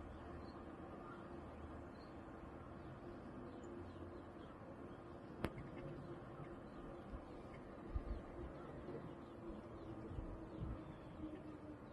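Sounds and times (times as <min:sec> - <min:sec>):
low background hum: 0:00.0 - 0:11.9.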